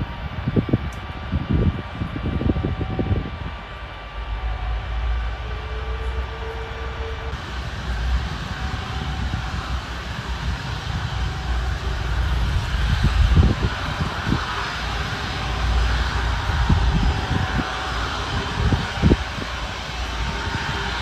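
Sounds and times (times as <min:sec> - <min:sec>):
jet airliner engines rumbling: 0:00.0 - 0:21.0.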